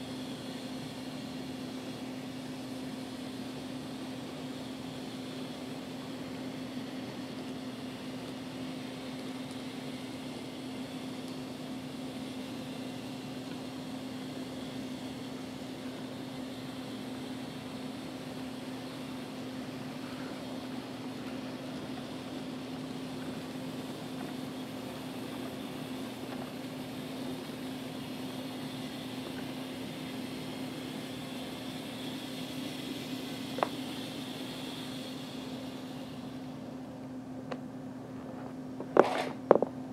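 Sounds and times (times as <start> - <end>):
model train humming on track: 0.0 - 39.7.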